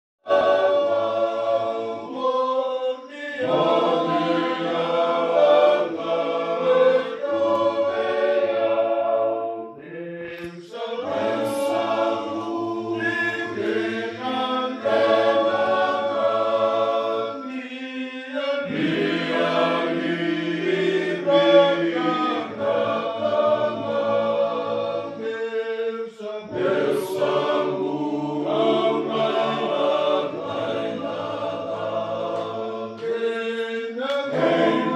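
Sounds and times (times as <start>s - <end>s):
men singing in harmony: 0.3s - 34.9s.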